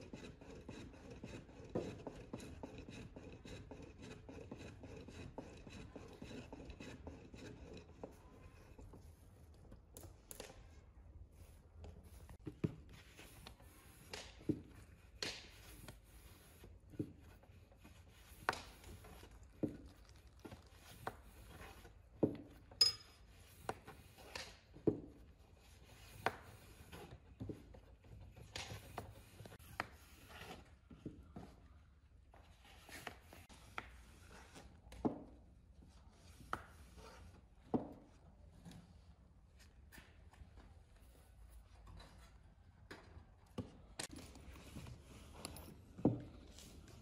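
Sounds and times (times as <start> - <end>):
dough worked on wooden board: 0.0 - 38.8.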